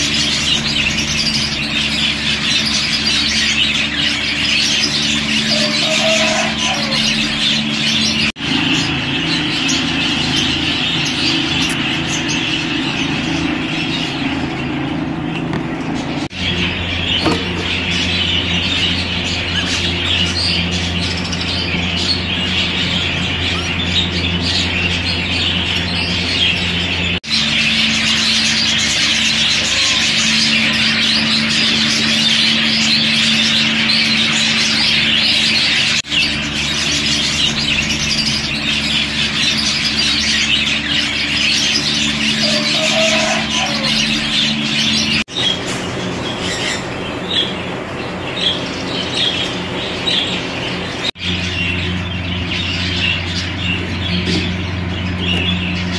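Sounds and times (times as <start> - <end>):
budgerigars chattering: 0.0 - 55.9
steady low hum: 0.0 - 55.9.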